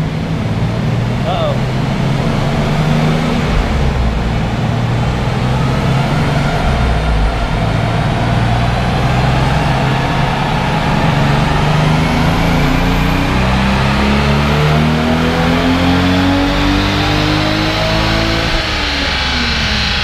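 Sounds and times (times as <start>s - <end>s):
car engine running on dyno: 0.0s - 20.0s.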